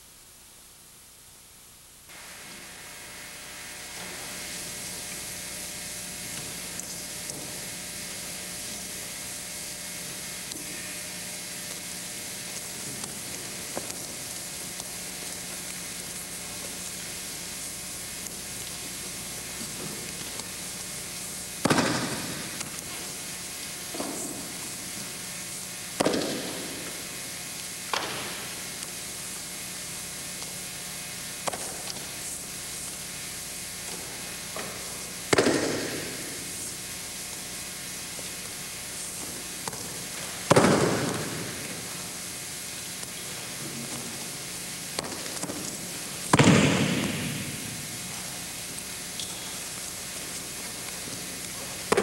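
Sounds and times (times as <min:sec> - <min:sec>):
low steady hum: 0:00.0 - 0:52.0
videotape hiss: 0:00.0 - 0:52.0.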